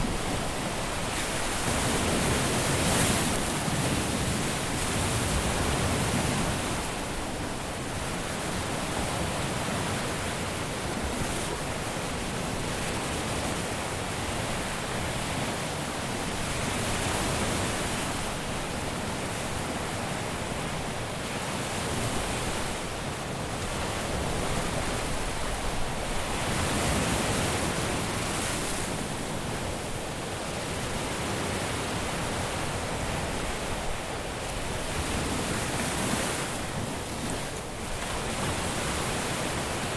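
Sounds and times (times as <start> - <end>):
waves breaking on beach: 0.0 - 39.9.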